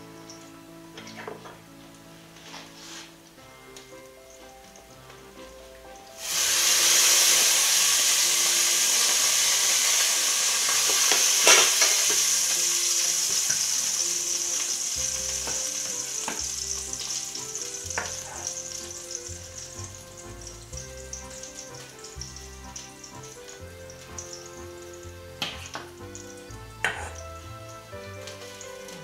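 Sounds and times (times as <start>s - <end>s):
quiet background music: 0.0s - 29.0s
food sizzling in a pan: 2.5s - 3.2s, 6.1s - 29.0s.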